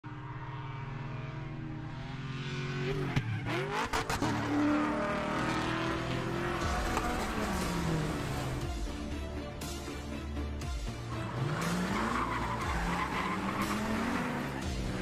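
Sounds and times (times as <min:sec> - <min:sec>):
race car engine revving: 0:00.1 - 0:08.7, 0:11.1 - 0:15.0.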